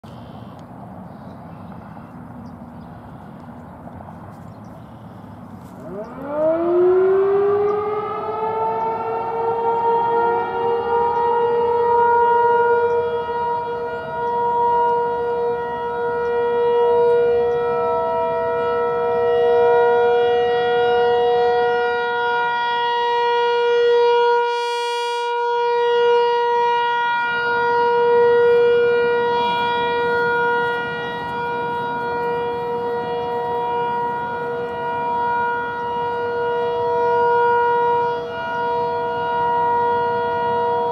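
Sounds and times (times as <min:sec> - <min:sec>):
rotating warning siren wailing: 0:01.4 - 0:40.9.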